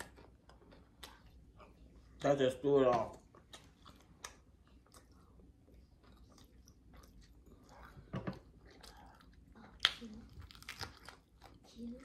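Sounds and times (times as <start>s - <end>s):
person chewing: 0.0s - 2.2s, 3.1s - 12.0s.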